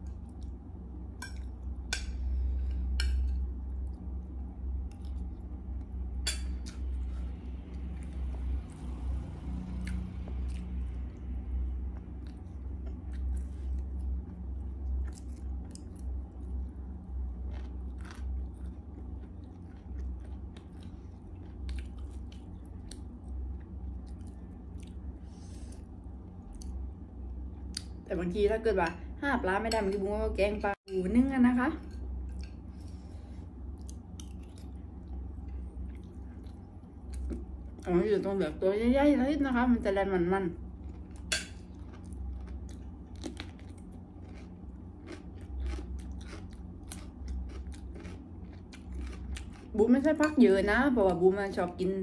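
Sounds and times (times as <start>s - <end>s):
chewing and crunching food: 0.0s - 28.1s, 31.8s - 38.4s, 40.5s - 51.9s.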